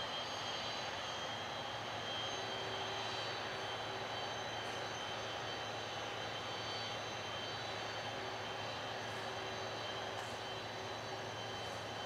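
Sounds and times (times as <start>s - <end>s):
high-pitched turbine whine: 0.0s - 12.0s
jet engines idling: 0.0s - 12.0s.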